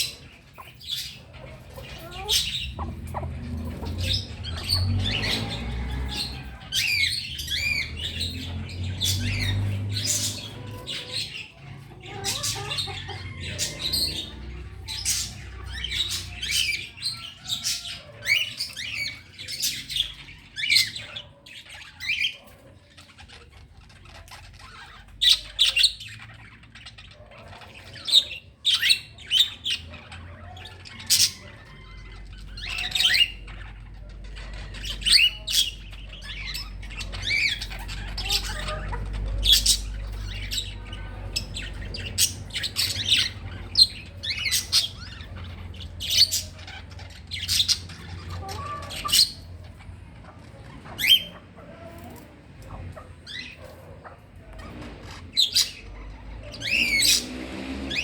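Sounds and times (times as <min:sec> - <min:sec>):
birds squawking and chirping: 0:00.0 - 0:58.0.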